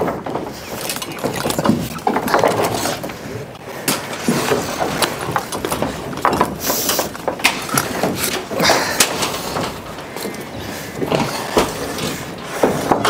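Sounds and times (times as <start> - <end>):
wood scraping on wood: 0.0 - 13.0
wooden knocks and clatters: 0.0 - 13.0.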